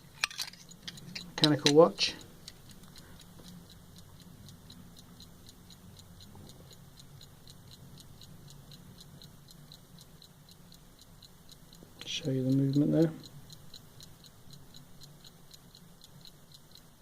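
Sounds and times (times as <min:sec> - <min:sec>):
pocket watch ticking: 0:00.0 - 0:17.0.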